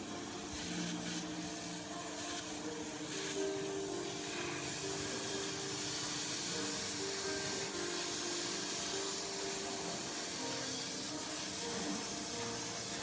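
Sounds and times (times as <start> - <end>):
steady air hiss: 0.0 - 13.0.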